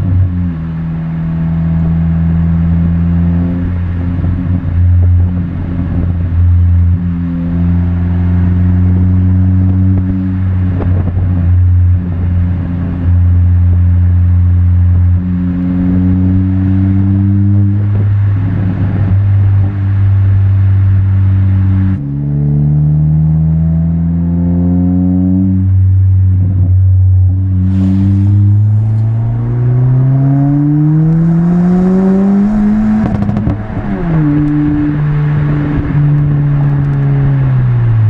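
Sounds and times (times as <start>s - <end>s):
car engine accelerating through gears: 0.0s - 38.0s.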